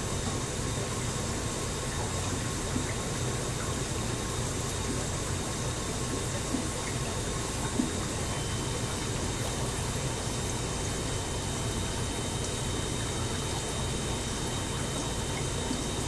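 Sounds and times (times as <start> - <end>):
aquarium pump noise: 0.0 - 16.0
faint constant hum: 0.0 - 16.0
running water: 0.0 - 16.0.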